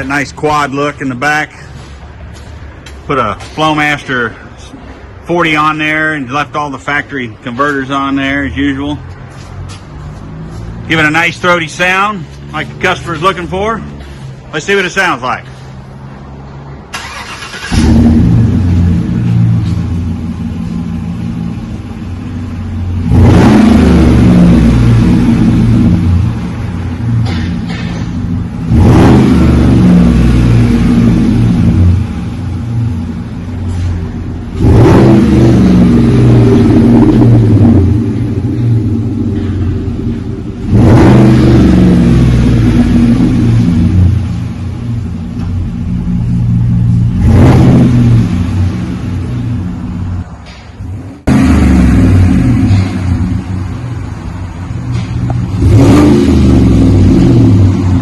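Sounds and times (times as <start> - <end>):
car engine idling: 0.0 - 58.0
car engine revving: 0.0 - 58.0.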